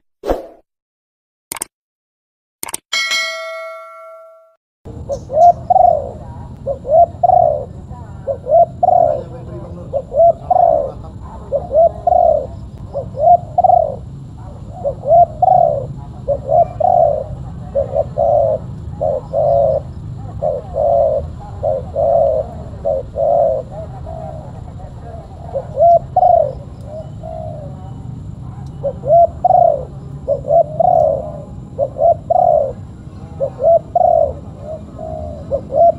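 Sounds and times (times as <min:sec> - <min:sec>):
dove cooing: 0:05.1 - 0:35.9.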